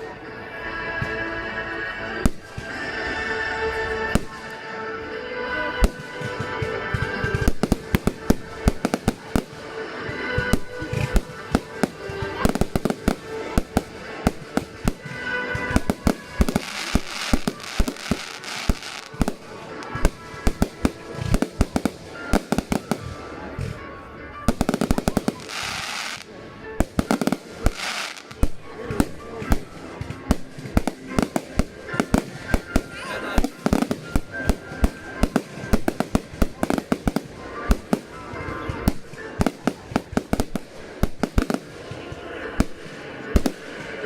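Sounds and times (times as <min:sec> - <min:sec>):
music playing: 0:00.0 - 0:44.0
fireworks bangs and crackles: 0:02.2 - 0:03.1, 0:03.7 - 0:04.7, 0:05.7 - 0:44.0.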